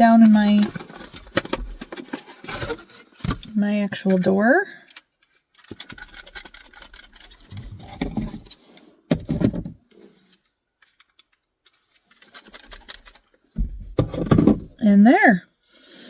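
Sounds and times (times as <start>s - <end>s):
plastic clicks and rustling: 0.0s - 13.6s.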